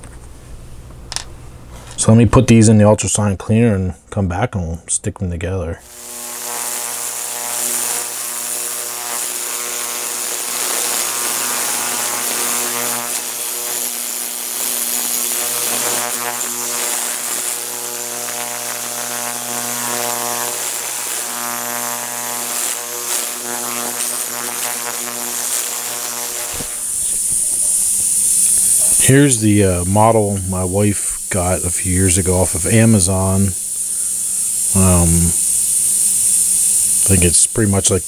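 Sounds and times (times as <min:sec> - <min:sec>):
ultrasonic cleaner buzzing and hissing: 0:05.8 - 0:38.0.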